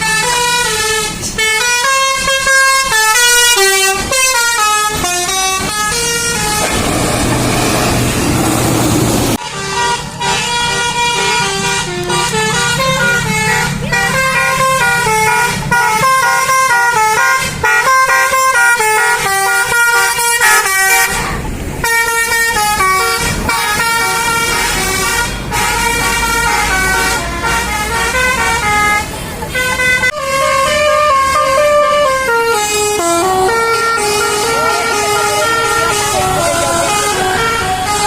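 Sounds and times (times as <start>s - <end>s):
musical air horn melodies: 0.0s - 8.2s, 9.3s - 38.0s.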